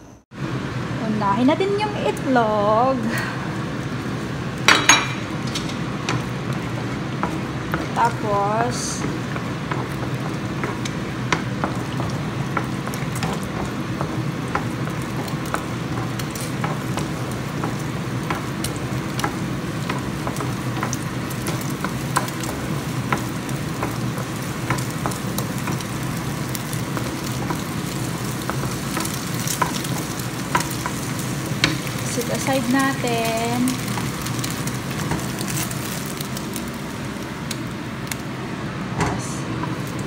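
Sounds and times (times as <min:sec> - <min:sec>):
egg sizzling in a frying pan: 0:01.8 - 0:40.0.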